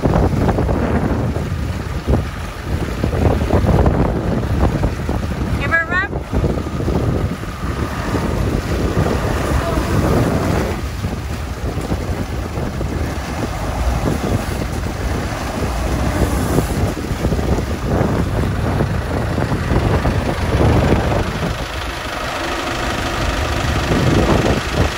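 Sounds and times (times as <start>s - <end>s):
diesel engine running: 0.0s - 24.9s
water churning and splashing: 0.0s - 24.9s
wind buffeting microphone: 0.0s - 24.9s.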